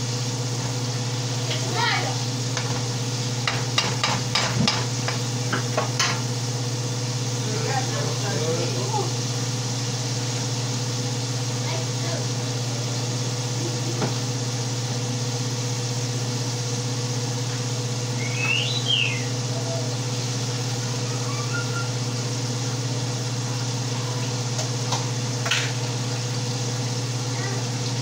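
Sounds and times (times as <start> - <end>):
appliance humming with hiss: 0.0 - 28.0.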